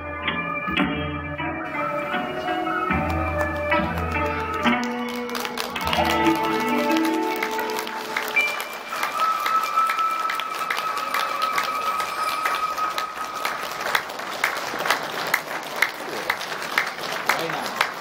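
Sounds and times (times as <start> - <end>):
audience applauding: 1.7 - 18.0.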